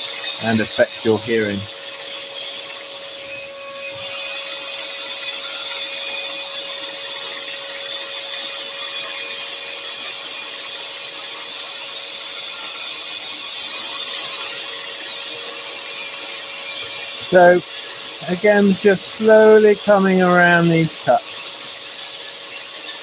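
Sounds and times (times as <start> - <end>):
extractor high-pitched whine: 0.0 - 23.0
scroll saw cutting wood: 0.0 - 23.0.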